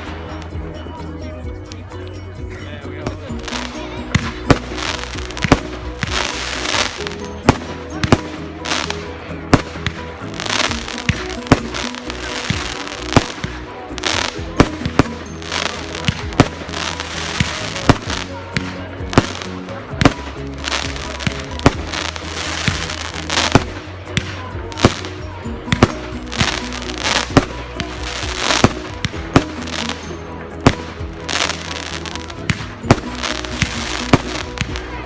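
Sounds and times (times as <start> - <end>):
background music: 0.0 - 35.0
fireworks hissing and crackling: 3.1 - 35.0
fireworks bangs: 3.4 - 25.1, 25.7 - 35.0.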